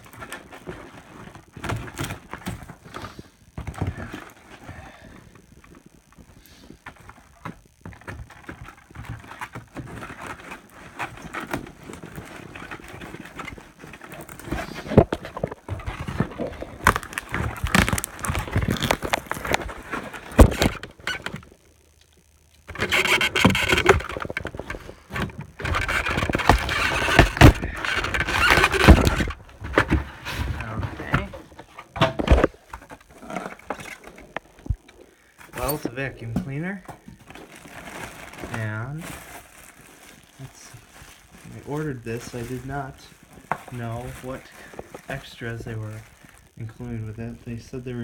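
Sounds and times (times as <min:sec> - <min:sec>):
cardboard box being unpacked: 0:06.7 - 0:21.5, 0:22.7 - 0:48.0.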